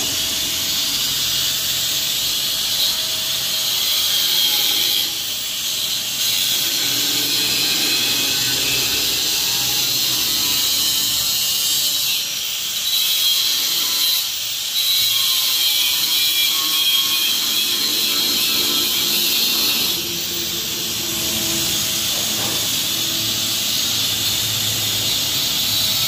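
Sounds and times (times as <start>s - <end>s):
angle grinder grinding metal: 0.0s - 26.0s.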